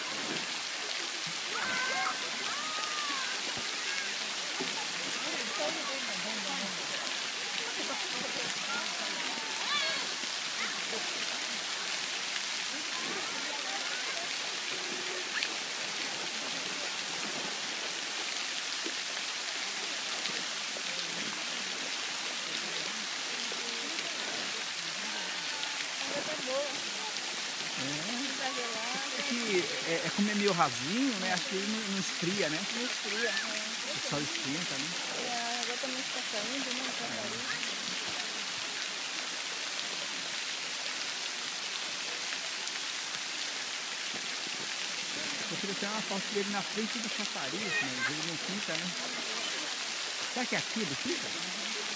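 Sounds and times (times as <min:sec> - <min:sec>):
fountain water falling: 0:00.0 - 0:51.9.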